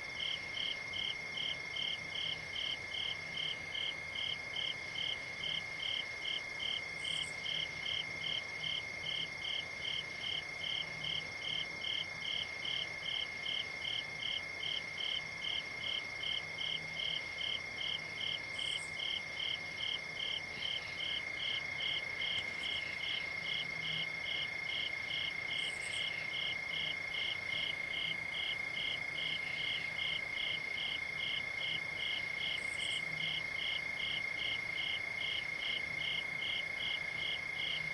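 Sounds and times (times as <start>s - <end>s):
cricket chirping: 0.0s - 37.9s
crickets trilling: 0.1s - 37.9s.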